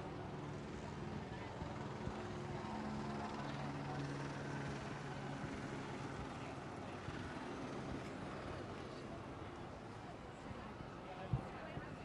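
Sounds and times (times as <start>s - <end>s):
street crowd noise: 0.0s - 12.0s.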